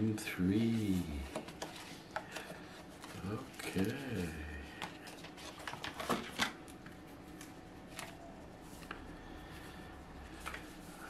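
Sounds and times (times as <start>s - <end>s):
cardboard and paper rustling: 0.3s - 11.0s.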